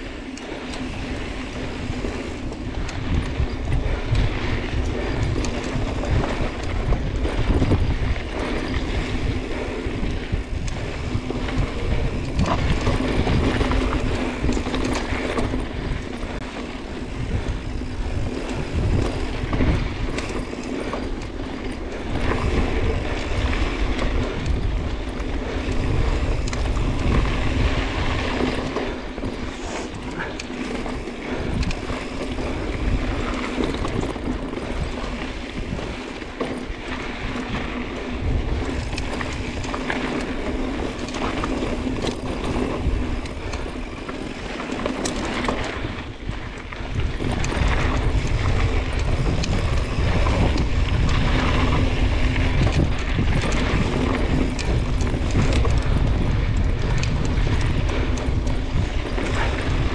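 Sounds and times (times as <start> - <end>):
bike rattling over bumps: 0.0 - 59.9
bike tyres on loose gravel: 0.0 - 59.9
wind buffeting microphone: 0.0 - 59.9.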